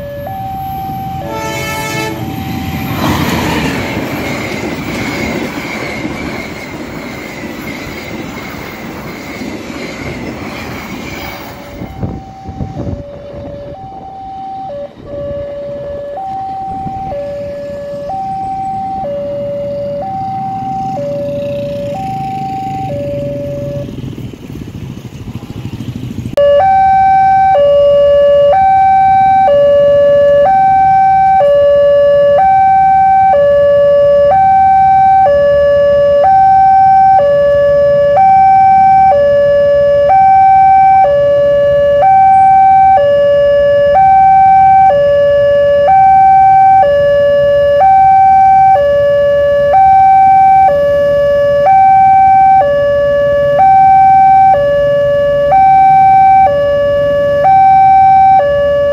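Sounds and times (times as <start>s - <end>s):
level crossing two-tone alarm: 0.0s - 6.6s, 11.6s - 23.9s, 26.4s - 58.9s.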